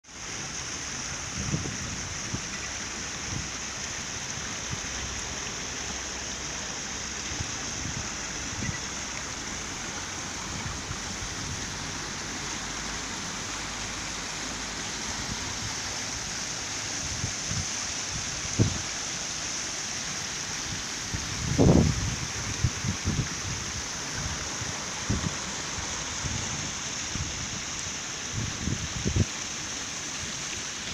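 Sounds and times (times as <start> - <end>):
fountain water over stones: 0.0 - 30.9.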